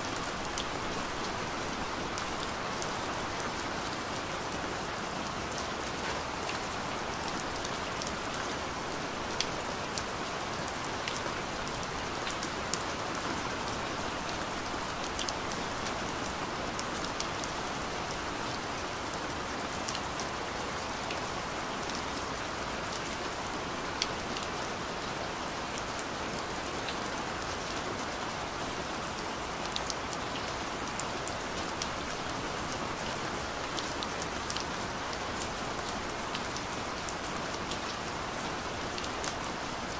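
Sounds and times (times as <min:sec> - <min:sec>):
steady rain falling: 0:00.0 - 0:39.9
sharp ticks of raindrops: 0:00.1 - 0:39.9.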